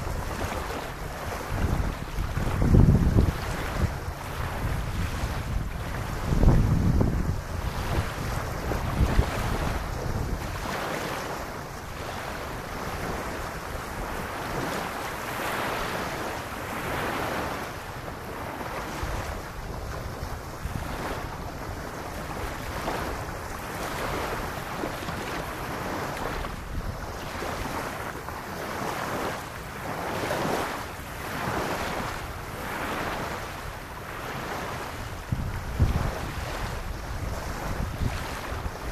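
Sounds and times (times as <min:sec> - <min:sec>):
small waves lapping on sand: 0:00.0 - 0:38.9
wind buffeting microphone: 0:00.0 - 0:38.9.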